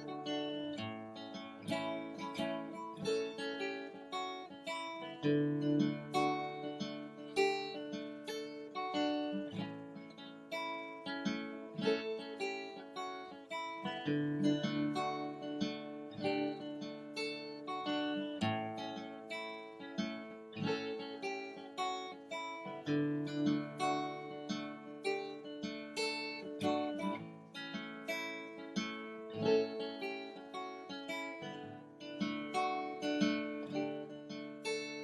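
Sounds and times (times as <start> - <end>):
acoustic guitar plucking and strumming: 0.0 - 35.0.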